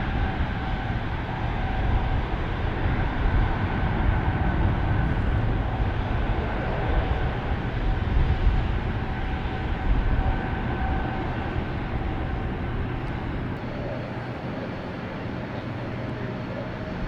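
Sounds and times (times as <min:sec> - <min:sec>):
airliner engine rumble with whine: 0:00.0 - 0:17.0.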